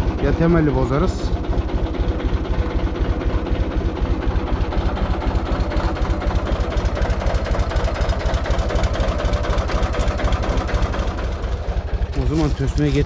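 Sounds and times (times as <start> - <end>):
tractor diesel engine throbbing: 0.0 - 13.0.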